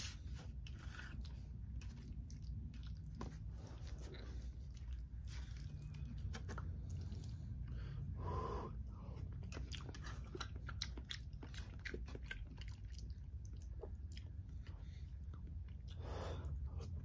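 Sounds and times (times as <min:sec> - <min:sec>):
steady low hum: 0:00.0 - 0:17.0
chewing with wet mouth clicks: 0:00.6 - 0:07.7, 0:09.2 - 0:17.0.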